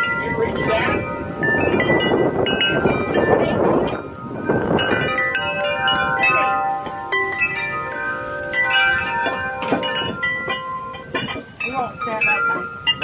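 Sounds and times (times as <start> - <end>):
wind buffeting the microphone: 0.0 - 13.0
wind chimes clanging: 0.0 - 13.0.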